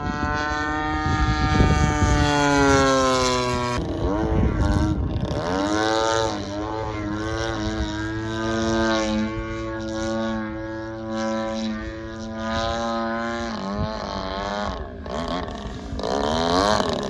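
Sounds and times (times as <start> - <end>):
model plane engine in flight: 0.0 - 17.0
wind noise on microphone: 0.0 - 17.0.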